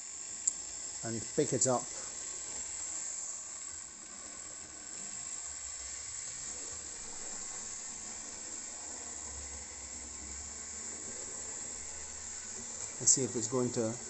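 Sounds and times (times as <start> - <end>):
small electric motor whirring: 0.0 - 14.0
steady hiss: 0.0 - 14.0.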